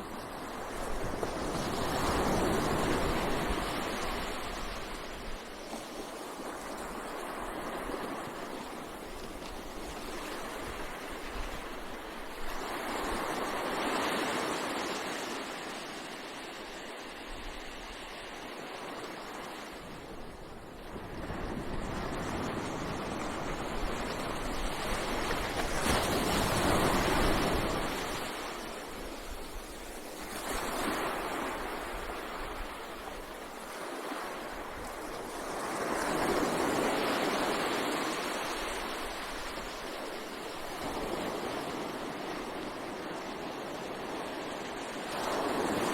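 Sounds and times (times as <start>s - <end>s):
ocean waves breaking on beach: 0.0s - 45.9s.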